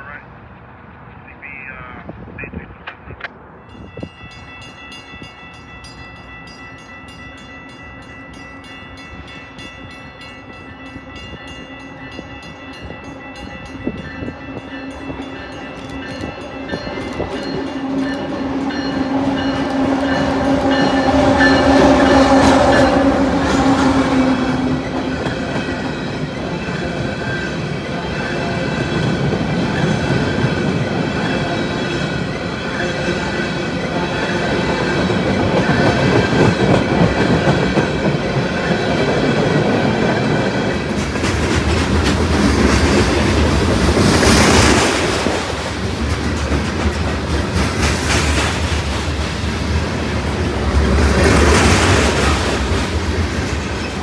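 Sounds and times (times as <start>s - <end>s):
train wheels rumbling on rails: 2.0s - 54.0s.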